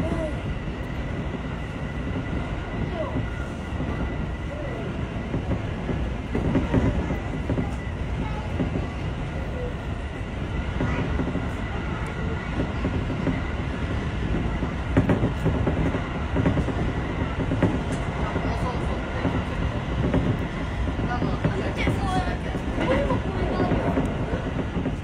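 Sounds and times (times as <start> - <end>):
heavy knocks of train wheels: 0.0 - 25.0
train wheels rumbling on rail: 0.0 - 25.0.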